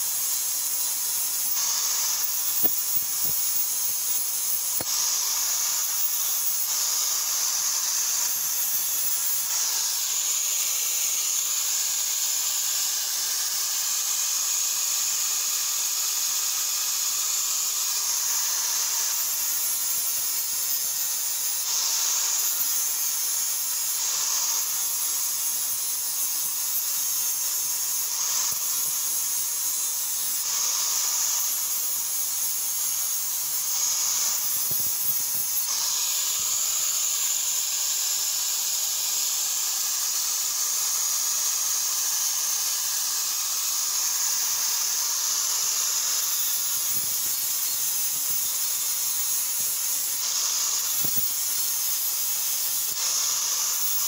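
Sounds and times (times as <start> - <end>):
angle grinder grinding steel: 0.0 - 54.0
grinder motor hum: 0.0 - 54.0.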